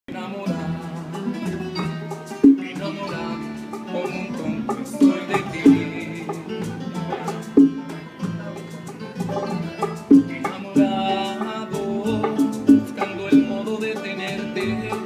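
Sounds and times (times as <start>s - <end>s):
acoustic band playing: 0.1s - 15.0s.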